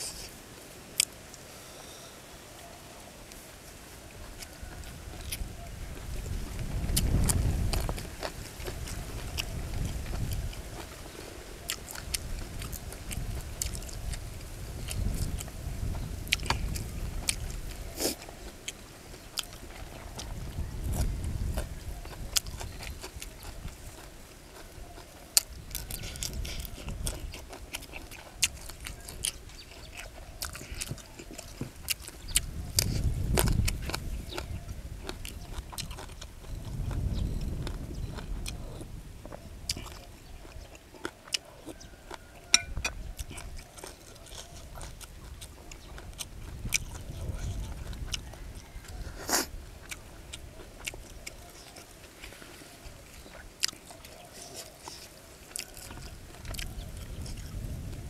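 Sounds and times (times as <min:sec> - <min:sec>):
person chewing and biting food: 0:04.1 - 0:05.6, 0:06.8 - 0:58.0.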